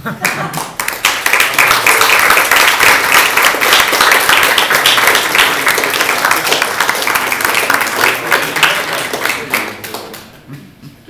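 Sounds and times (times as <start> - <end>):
audience applauding: 0.2 - 10.4.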